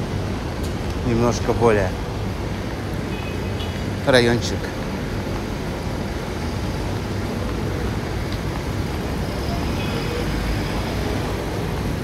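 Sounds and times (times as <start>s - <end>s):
city road traffic rumble: 0.0s - 12.0s.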